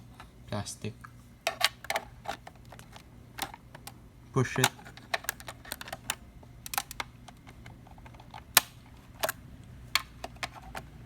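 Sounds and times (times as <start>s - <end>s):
plastic parts clicking and tapping: 1.4s - 4.0s, 4.6s - 11.0s.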